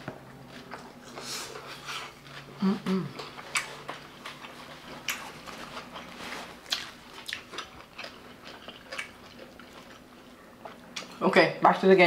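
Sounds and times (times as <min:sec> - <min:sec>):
person chewing crunchy food: 0:00.0 - 0:11.2.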